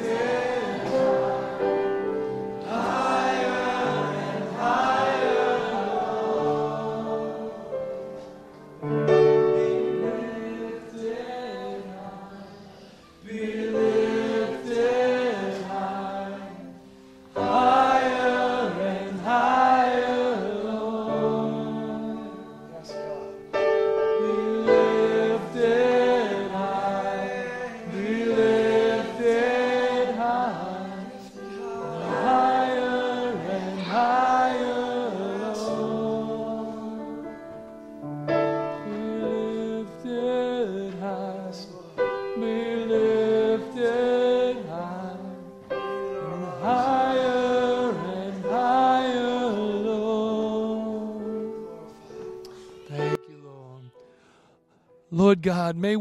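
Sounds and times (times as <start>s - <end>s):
congregation singing: 0.0s - 53.2s.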